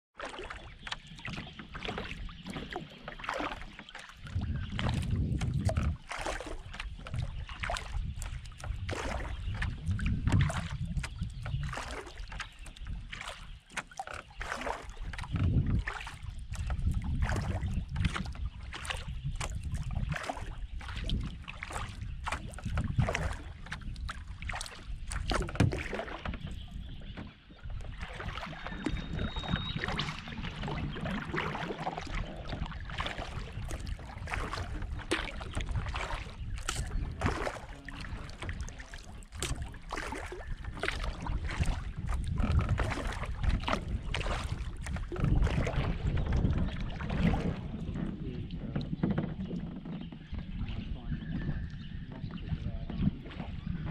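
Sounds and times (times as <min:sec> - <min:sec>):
paddle splashing and dripping: 0:00.1 - 0:53.9
wind rumble on microphone: 0:04.2 - 0:13.7, 0:14.3 - 0:53.9.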